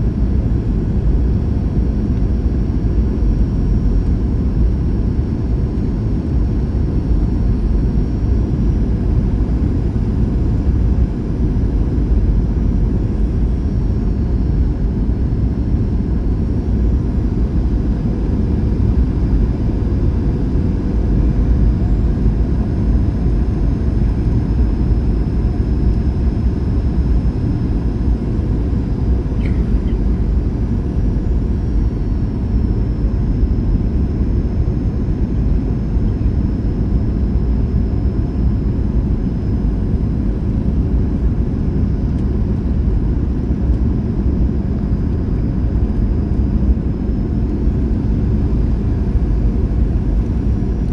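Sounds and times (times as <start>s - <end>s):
airplane cabin roar: 0.0s - 50.9s.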